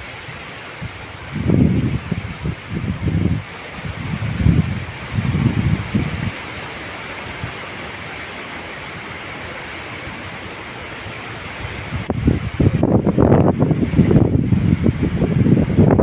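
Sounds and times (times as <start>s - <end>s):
heavy wind blowing: 0.0s - 16.0s
wind buffeting microphone: 0.0s - 16.0s.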